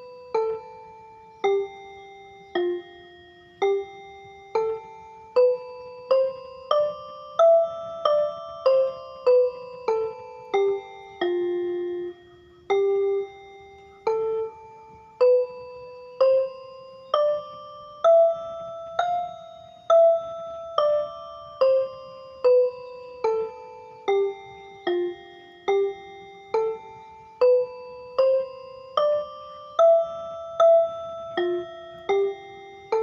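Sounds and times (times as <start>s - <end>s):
bell-like melody: 0.0s - 33.0s.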